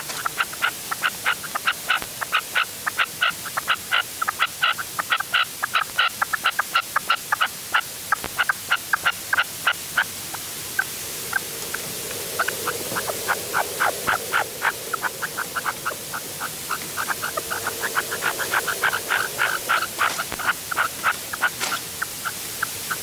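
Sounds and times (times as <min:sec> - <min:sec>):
partridge calling sharp notes: 0:00.1 - 0:23.0.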